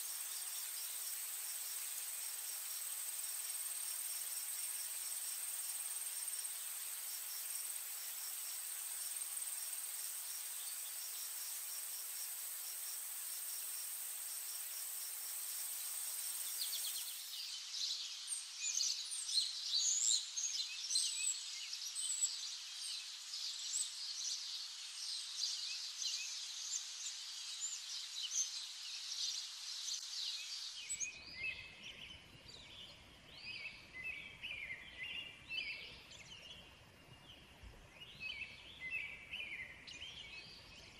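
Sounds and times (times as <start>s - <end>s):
insect drone: 0.0s - 32.9s.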